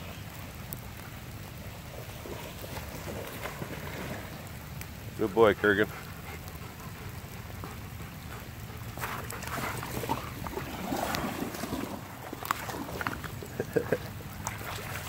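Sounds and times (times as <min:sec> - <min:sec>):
rain hissing: 0:00.0 - 0:14.5
dogs splashing through water: 0:00.0 - 0:15.0.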